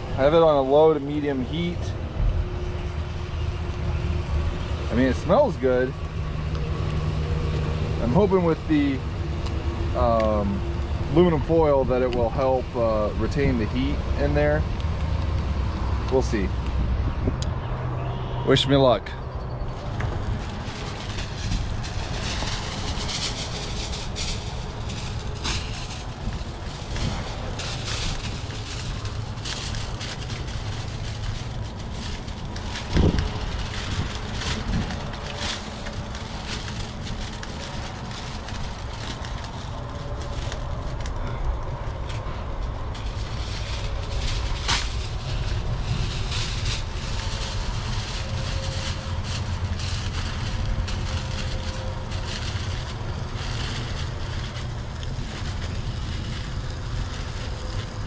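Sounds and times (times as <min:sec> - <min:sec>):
aluminum foil crinkling: 0:00.0 - 0:16.5, 0:19.7 - 0:58.0
wind rumble: 0:00.0 - 0:58.0.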